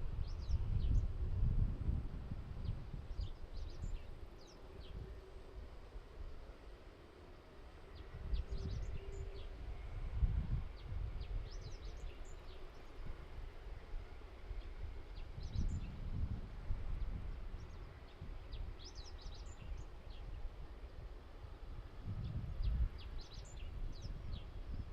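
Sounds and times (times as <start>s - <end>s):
wind buffeting microphone: 0.0s - 6.4s, 7.9s - 24.9s.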